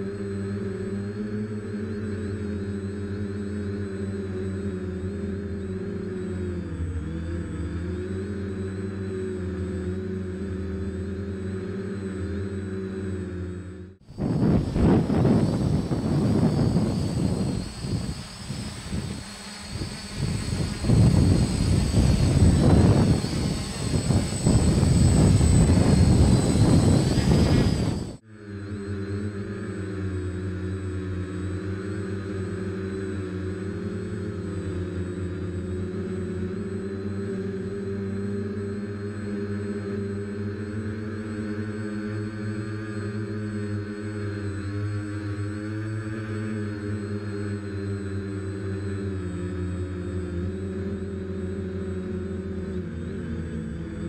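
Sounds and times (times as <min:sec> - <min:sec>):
quadcopter motors droning: 0:00.0 - 0:54.0.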